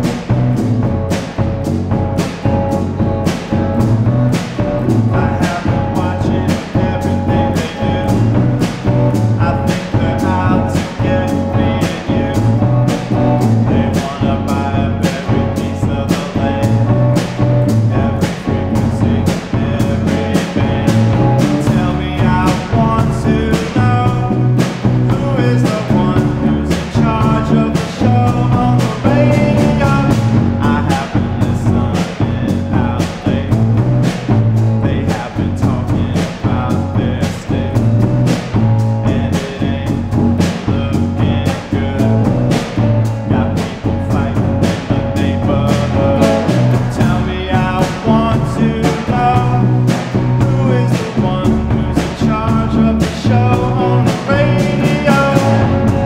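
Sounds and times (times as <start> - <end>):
man singing: 0.0 - 56.0
rock band playing: 0.0 - 56.0.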